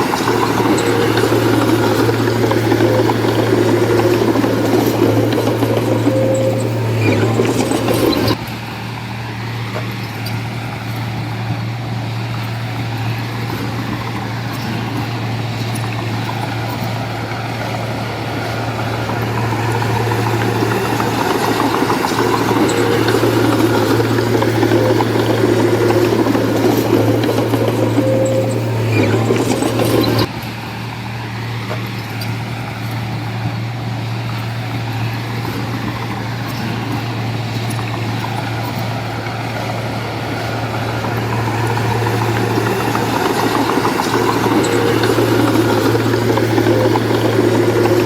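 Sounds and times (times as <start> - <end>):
diesel machinery engine humming: 0.0 - 48.0.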